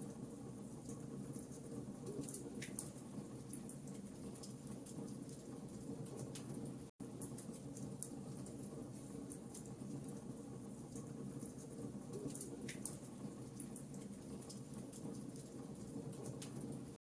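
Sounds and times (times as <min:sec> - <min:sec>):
low rumble of burning fire: 0:00.0 - 0:17.0
wood fire crackling: 0:00.0 - 0:17.0
fire snaps and pops: 0:00.8 - 0:10.2, 0:10.9 - 0:17.0.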